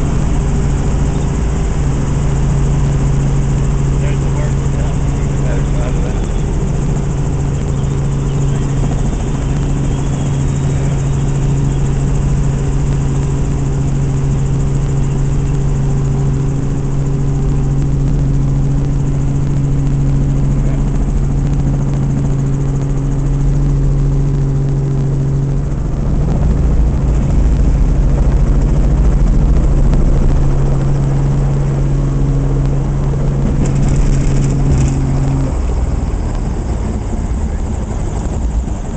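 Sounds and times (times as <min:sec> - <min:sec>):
helicopter rotor and engine drone: 0:00.0 - 0:38.9
rushing wind: 0:00.0 - 0:38.9.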